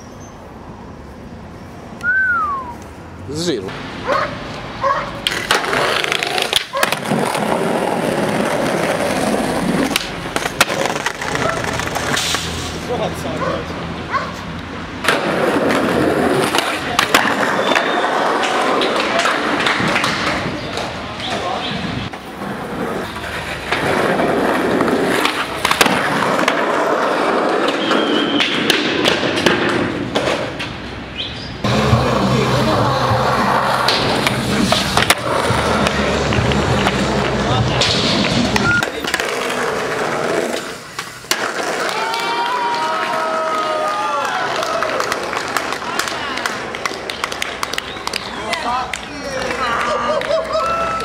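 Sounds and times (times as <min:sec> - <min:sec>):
skateboard wheels rolling on pavement: 0:00.0 - 0:51.0
skateboard clacking on ground: 0:04.1 - 0:12.5, 0:15.0 - 0:30.9, 0:31.6 - 0:51.0.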